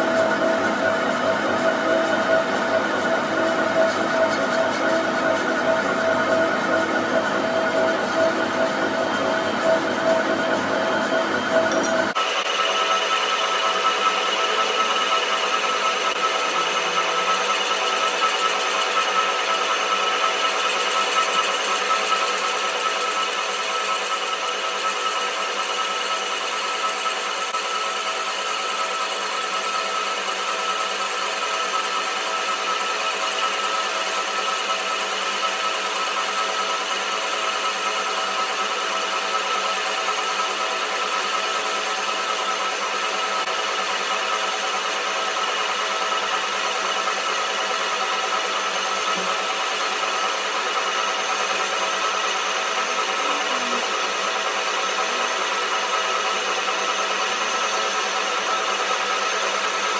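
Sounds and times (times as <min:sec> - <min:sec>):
lathe mechanical whine: 0:00.0 - 0:59.9.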